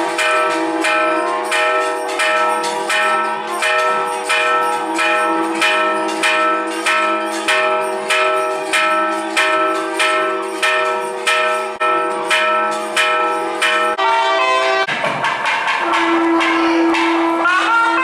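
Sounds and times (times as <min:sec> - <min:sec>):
large temple bell ringing: 0:00.0 - 0:18.0.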